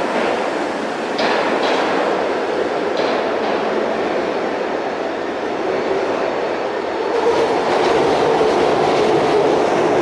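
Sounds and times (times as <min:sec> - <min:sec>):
rumble of wheels on rail: 0:00.0 - 0:10.0.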